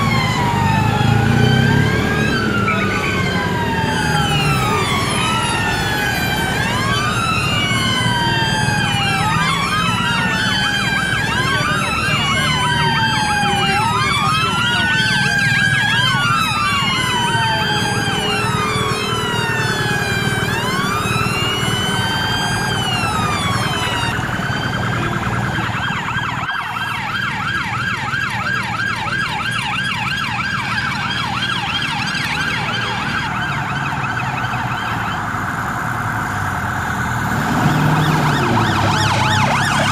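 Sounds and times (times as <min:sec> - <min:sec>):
police sirens wailing: 0:00.0 - 0:39.9
vehicle engines and traffic: 0:00.0 - 0:39.9.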